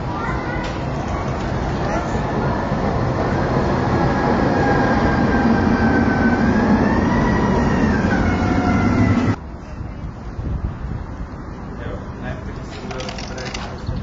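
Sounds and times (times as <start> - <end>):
tram rumbling past: 0.0 - 13.6.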